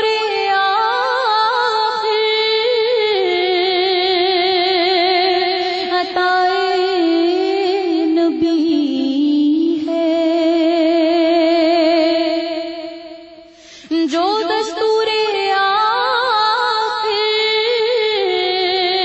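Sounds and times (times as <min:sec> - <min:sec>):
person singing with vibrato: 0:00.0 - 0:19.0.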